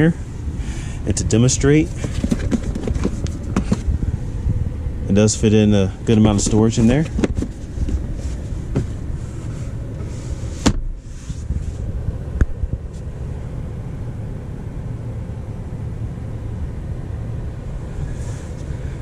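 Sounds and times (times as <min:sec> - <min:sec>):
car engine idling cabin rumble: 0:00.0 - 0:19.0.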